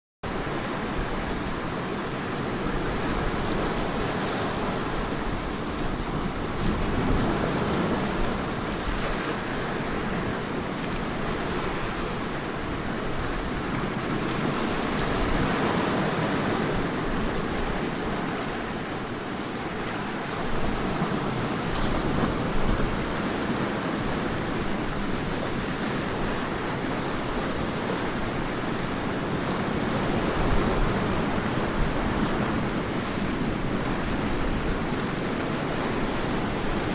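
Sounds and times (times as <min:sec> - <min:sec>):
ocean surf breaking on shore: 0:00.2 - 0:36.9
wind on microphone: 0:00.3 - 0:36.9.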